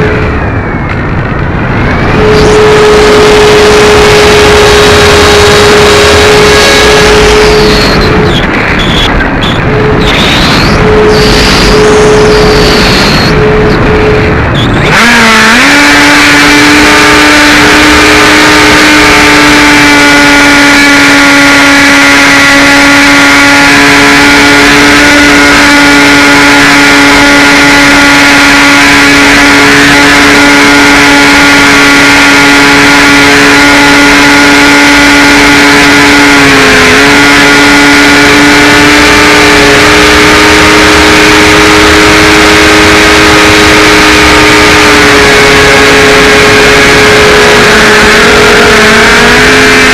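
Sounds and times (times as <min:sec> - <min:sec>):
electric motor whine: 0:00.0 - 0:49.9.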